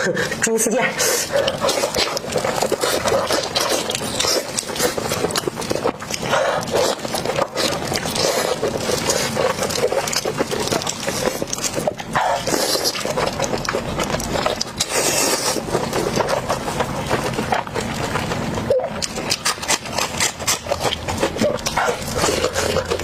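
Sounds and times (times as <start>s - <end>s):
chewing and lip-smacking: 0.0s - 23.0s.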